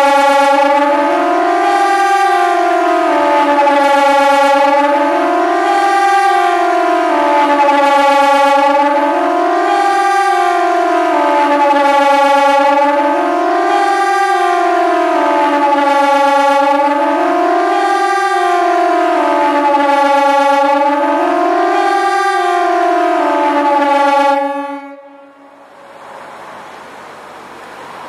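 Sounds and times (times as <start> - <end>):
electronic siren rising and falling: 0.0 - 25.6.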